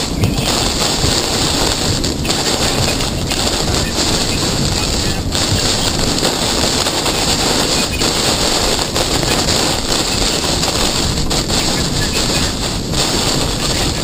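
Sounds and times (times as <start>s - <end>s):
strong wind rushing: 0.0s - 14.0s.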